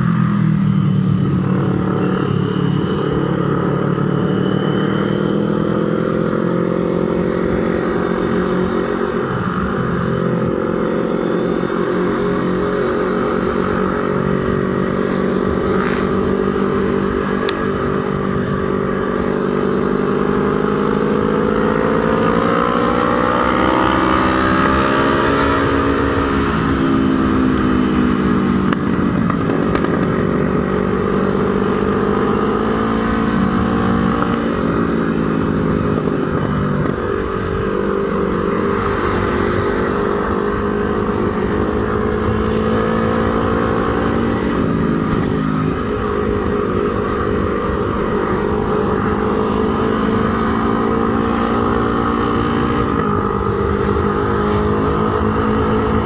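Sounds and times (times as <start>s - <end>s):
motorcycle engine shifting gears: 0.0s - 56.0s
wind and road noise: 0.0s - 56.0s.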